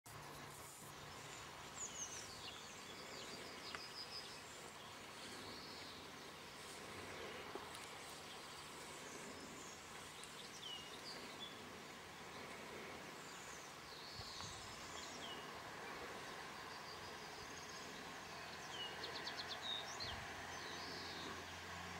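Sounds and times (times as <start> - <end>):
small birds chirping: 0.1 - 21.9.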